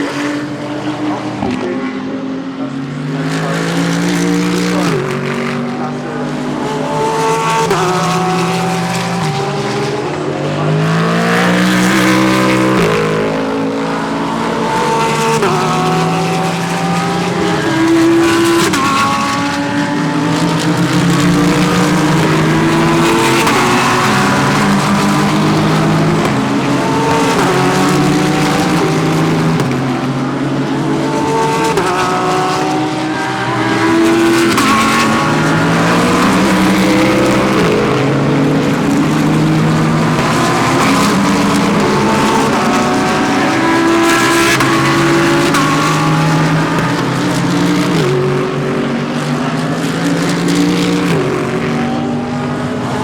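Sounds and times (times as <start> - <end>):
race cars passing: 0.0 - 53.0.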